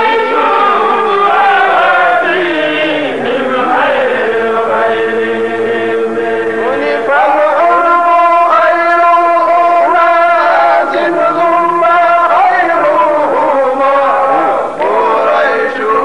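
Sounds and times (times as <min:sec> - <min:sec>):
man chanting into microphone: 0:02.8 - 0:16.0.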